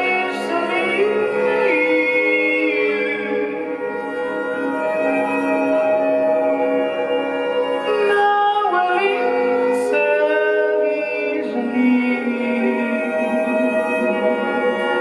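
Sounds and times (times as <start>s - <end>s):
live ensemble music: 0.0s - 15.0s.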